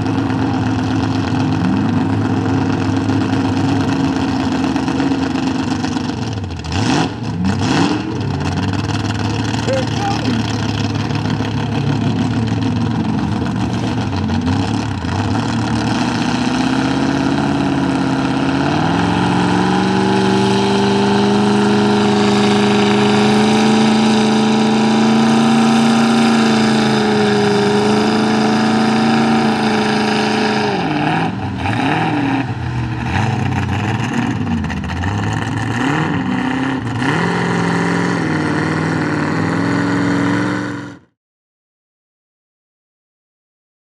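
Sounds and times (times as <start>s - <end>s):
truck engine revving: 0.0s - 41.1s.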